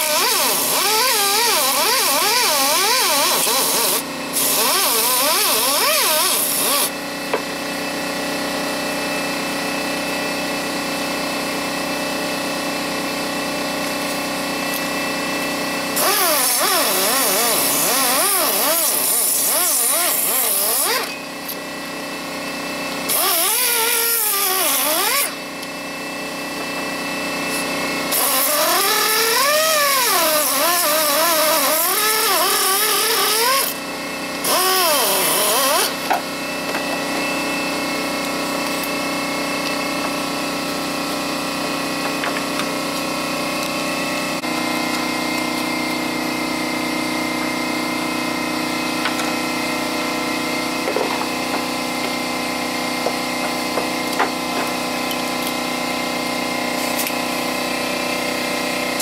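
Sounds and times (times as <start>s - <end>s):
power tool whining: 0.0s - 59.0s.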